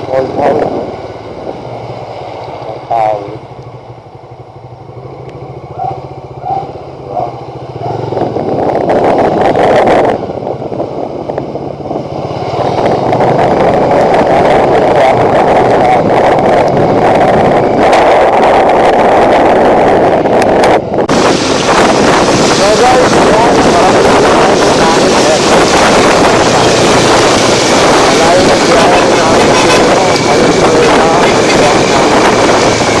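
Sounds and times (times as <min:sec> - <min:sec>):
wind rush over microphone: 0:00.0 - 0:03.4, 0:04.7 - 0:33.0
motorcycle engine running: 0:00.0 - 0:33.0.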